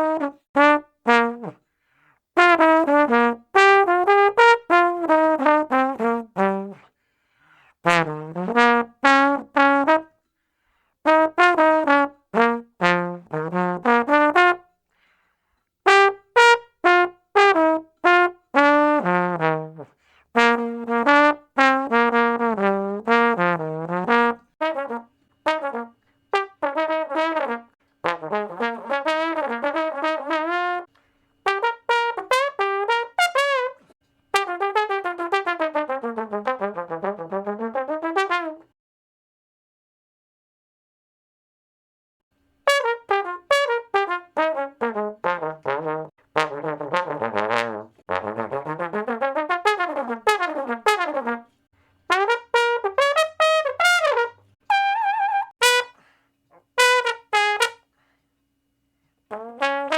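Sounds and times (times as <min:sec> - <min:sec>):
tuba playing short phrases: 0:00.0 - 0:01.6, 0:02.4 - 0:06.9, 0:07.8 - 0:10.1, 0:11.1 - 0:14.7, 0:15.9 - 0:38.7, 0:42.7 - 0:57.9, 0:59.3 - 0:59.9.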